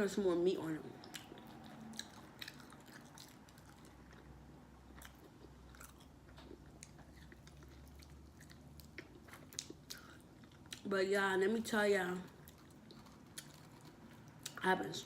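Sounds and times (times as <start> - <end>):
chewing and biting food: 0.8 - 10.9, 12.2 - 14.6.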